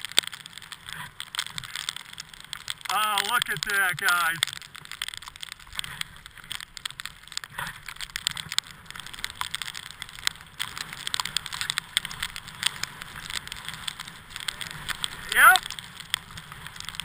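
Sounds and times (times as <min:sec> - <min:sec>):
skis sliding over snow: 0:00.0 - 0:17.0.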